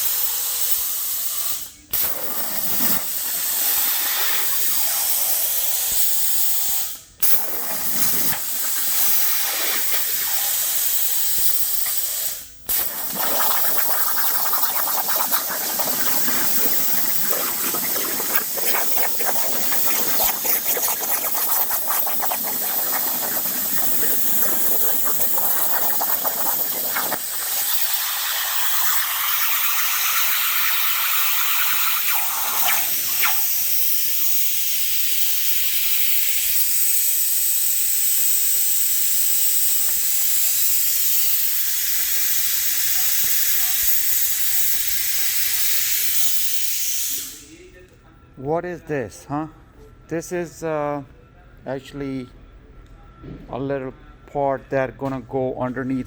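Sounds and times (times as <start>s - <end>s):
plasma cutter torch hissing: 0.0s - 47.6s.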